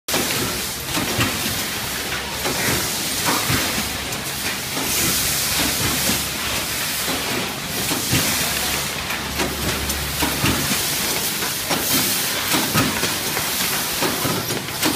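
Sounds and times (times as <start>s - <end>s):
packing machine hissing: 0.1s - 14.9s.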